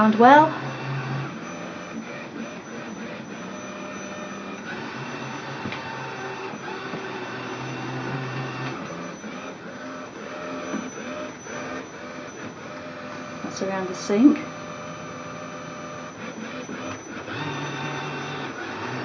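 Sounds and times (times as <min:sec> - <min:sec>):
robot vacuum motor whir: 0:00.0 - 0:19.0.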